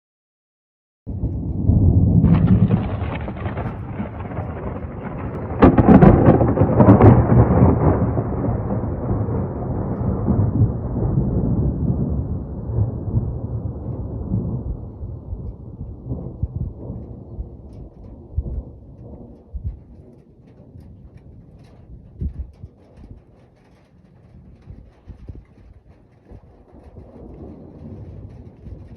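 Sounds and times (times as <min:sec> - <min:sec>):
rain: 0:01.1 - 0:28.9
thunder crack: 0:01.1 - 0:28.9
thunder rumbling: 0:01.1 - 0:28.9.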